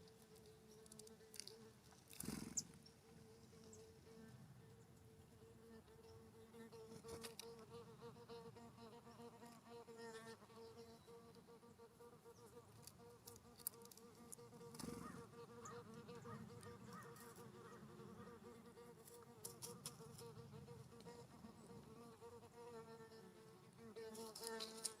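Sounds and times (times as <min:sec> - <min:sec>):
flying insect buzzing: 0:00.0 - 0:25.0.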